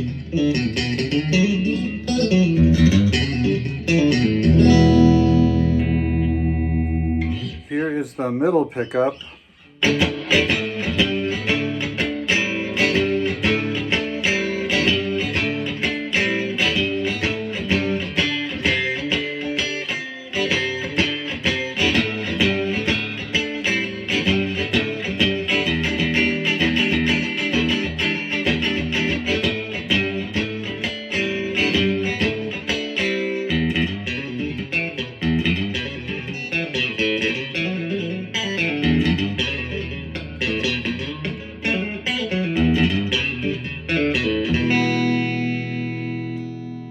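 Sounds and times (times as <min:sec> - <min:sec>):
electric guitar notes and chords: 0:00.0 - 0:08.0, 0:09.1 - 0:46.9.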